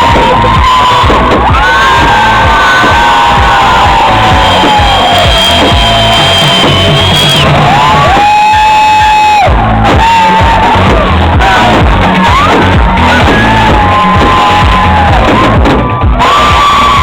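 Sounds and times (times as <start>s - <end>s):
loud music with low beat: 0.0s - 17.0s.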